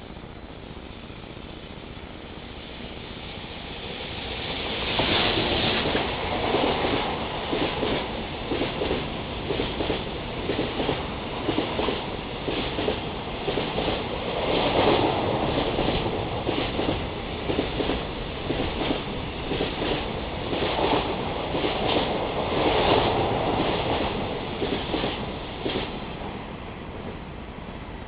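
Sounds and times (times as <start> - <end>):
freight train wheels rumbling: 0.0 - 28.0
wheels clacking on rail: 4.2 - 27.3.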